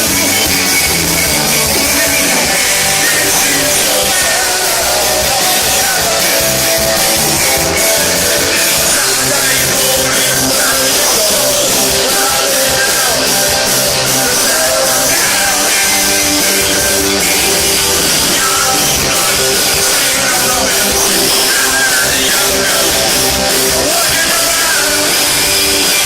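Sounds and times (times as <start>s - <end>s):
punk rock band playing live: 0.0s - 26.0s.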